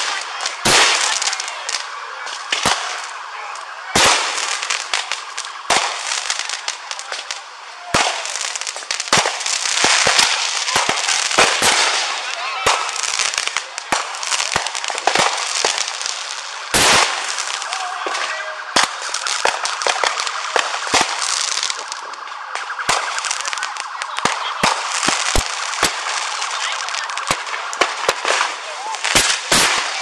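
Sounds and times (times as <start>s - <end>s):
firecrackers crackling: 0.0s - 30.0s
fireworks bangs: 0.0s - 30.0s.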